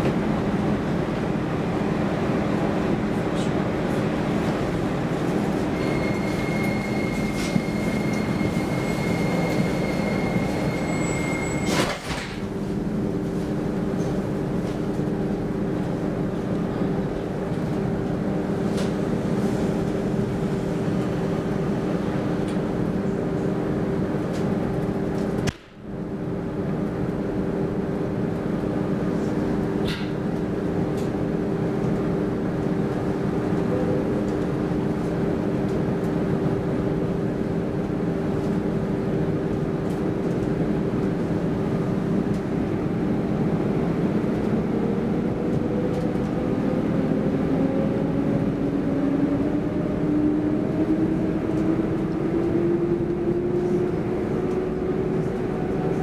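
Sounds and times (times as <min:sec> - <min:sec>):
train electric hum and rumble: 0:00.0 - 0:56.0.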